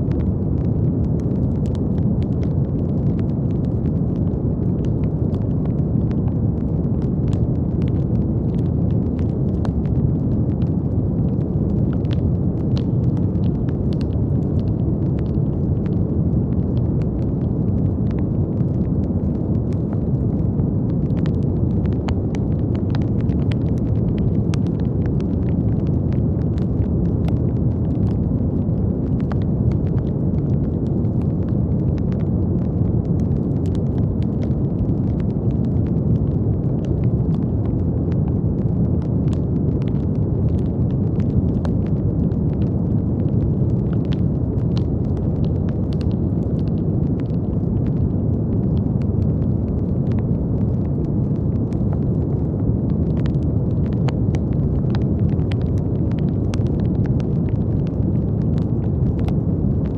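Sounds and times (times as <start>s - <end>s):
deep brown noise hiss: 0.0s - 59.9s
faint clicks and crackles: 0.0s - 59.9s.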